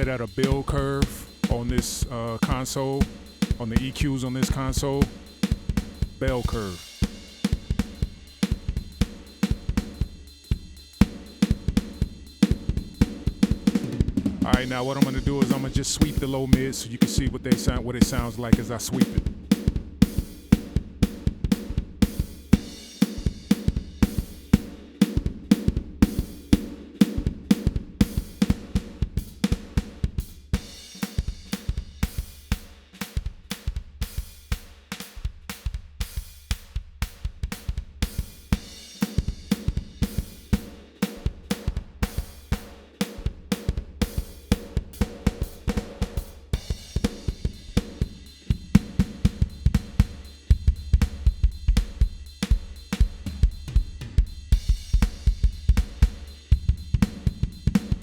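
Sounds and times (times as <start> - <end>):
drum kit groove: 0.0 - 58.0.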